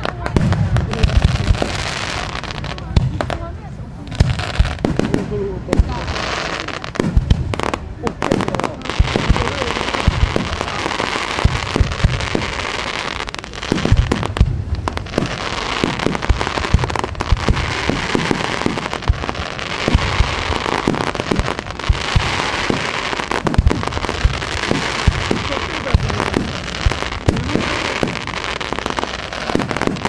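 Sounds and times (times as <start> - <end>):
firework crackling: 0.0 - 30.0.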